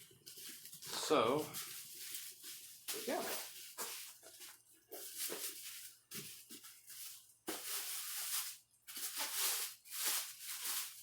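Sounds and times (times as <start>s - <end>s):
packaging wrap rustling: 0.0s - 11.0s.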